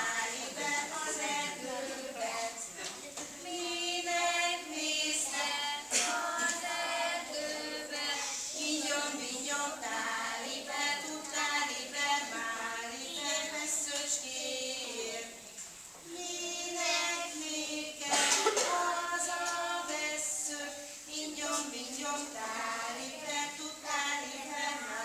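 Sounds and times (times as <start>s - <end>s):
children singing: 0.0s - 15.4s, 16.0s - 25.0s
woman singing: 3.4s - 15.4s, 16.2s - 25.0s.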